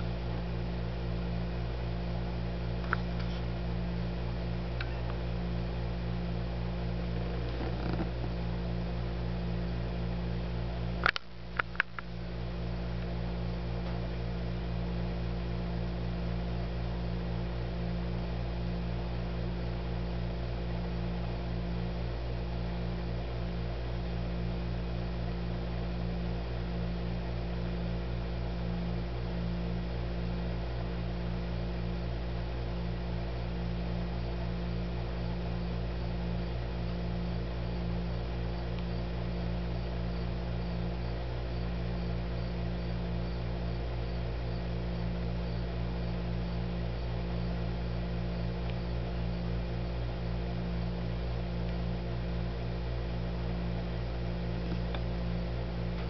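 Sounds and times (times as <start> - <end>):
electrical hum: 0.0 - 56.0.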